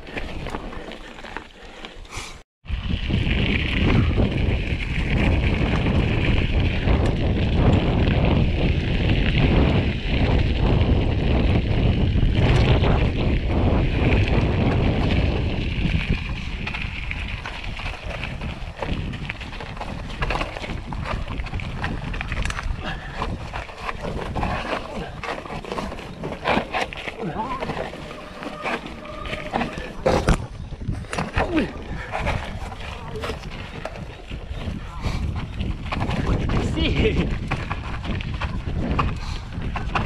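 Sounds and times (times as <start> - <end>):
mountain bike rattling on dirt trail: 0.0 - 2.1, 2.7 - 40.0
wind buffeting microphone: 2.6 - 40.0.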